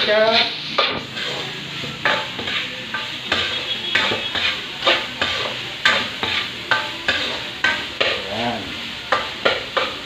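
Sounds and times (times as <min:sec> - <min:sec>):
frying sizzle: 0:00.0 - 0:10.0
metal spatula scraping wok: 0:00.0 - 0:10.0.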